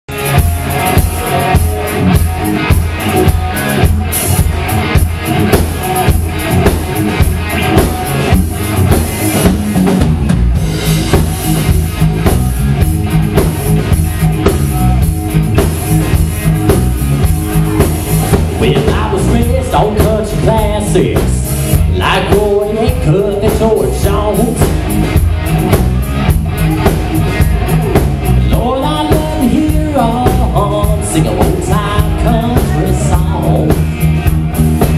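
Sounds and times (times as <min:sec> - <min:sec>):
bass guitar: 0:00.0 - 0:34.9
drum kit beat: 0:00.1 - 0:34.9
electric guitar: 0:00.1 - 0:34.9.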